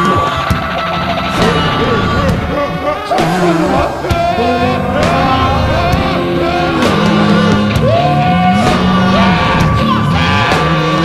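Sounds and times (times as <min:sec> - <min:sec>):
live rock band: 0:00.0 - 0:11.0
person singing and shouting: 0:01.3 - 0:11.0.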